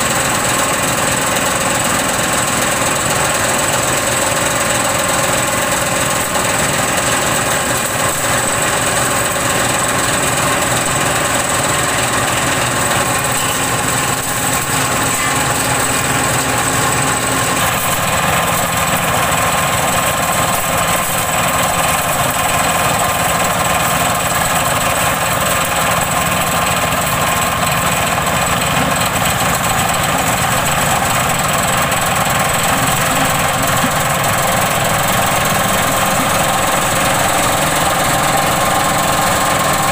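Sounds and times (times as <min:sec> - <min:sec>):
chopper shredding waste: 0:00.0 - 0:39.9
diesel engine running: 0:00.0 - 0:39.9.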